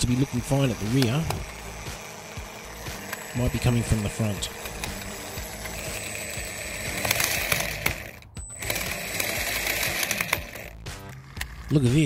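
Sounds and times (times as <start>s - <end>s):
electric motor whine: 0.0s - 12.0s
gears crunching and clicking: 0.0s - 12.0s.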